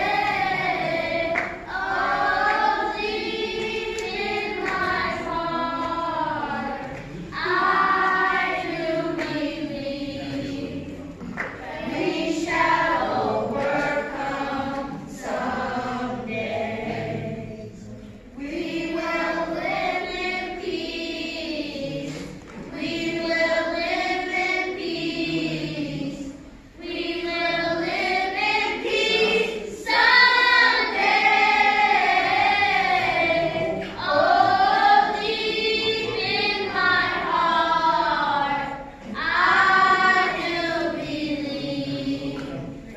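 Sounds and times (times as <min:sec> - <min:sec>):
children's choir singing: 0:00.0 - 0:42.9.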